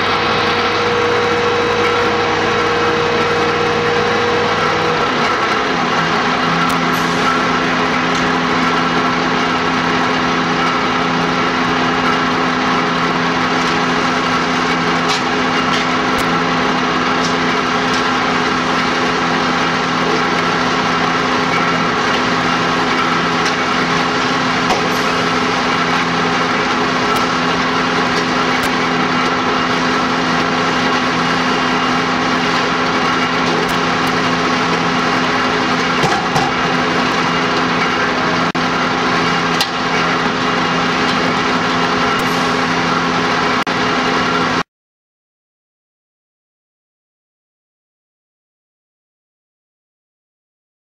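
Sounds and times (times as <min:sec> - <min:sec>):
fire engine motor running: 0:00.0 - 0:44.6.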